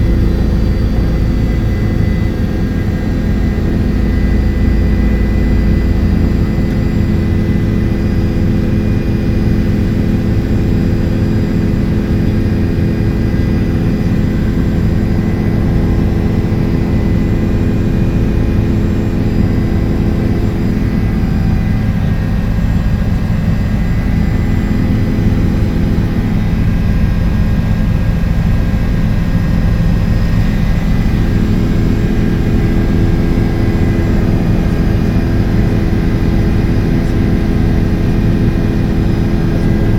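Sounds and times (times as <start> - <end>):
helicopter engine whine: 0.0 - 39.9
helicopter rotor drone: 0.0 - 39.9.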